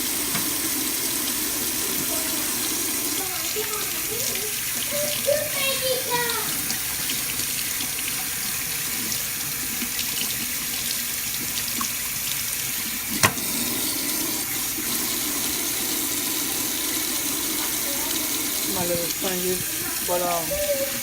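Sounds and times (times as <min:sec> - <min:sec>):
kitchen tap running: 0:00.0 - 0:21.0.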